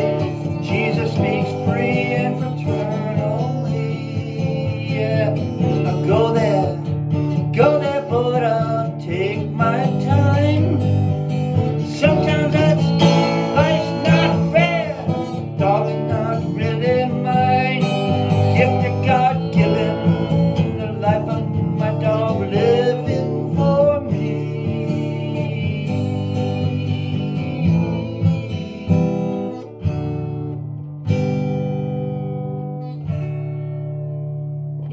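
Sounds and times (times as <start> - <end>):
bass: 0.0 - 32.2
country guitar lead melody: 0.0 - 34.9
strummed acoustic guitar chords: 0.0 - 34.9.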